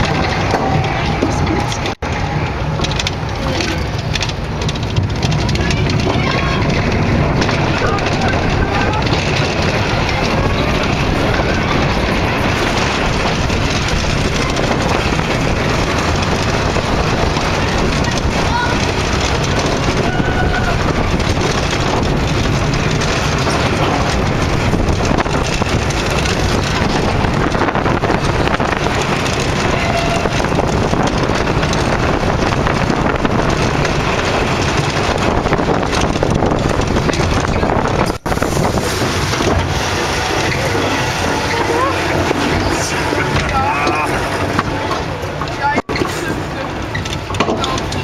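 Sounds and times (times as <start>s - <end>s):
roller coaster rumbling on track: 0.0s - 48.0s
wind buffeting microphone: 0.0s - 48.0s.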